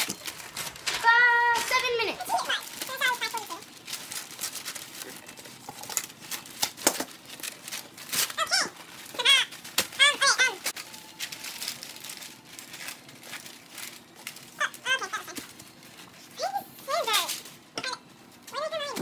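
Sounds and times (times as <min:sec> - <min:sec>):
wrapping paper crinkling: 0:00.0 - 0:17.6.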